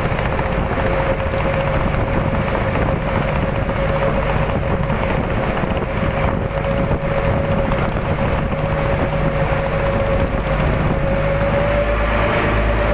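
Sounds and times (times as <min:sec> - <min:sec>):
motor running with high whine: 0:00.0 - 0:12.9.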